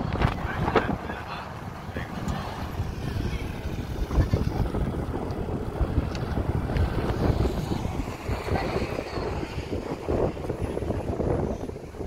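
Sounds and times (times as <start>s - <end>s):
outdoor rumble: 0.0s - 12.0s
wind buffeting microphone: 0.0s - 12.0s.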